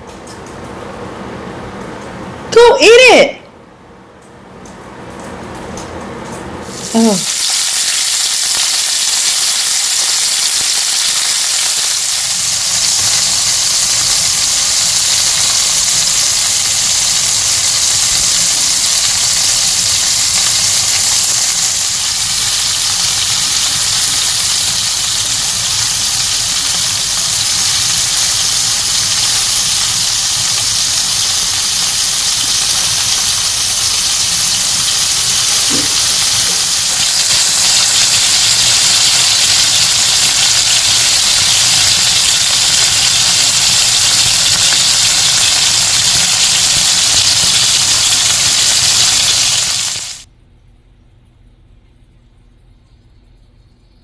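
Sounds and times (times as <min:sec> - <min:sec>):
loud steady hiss: 0:06.6 - 0:50.3.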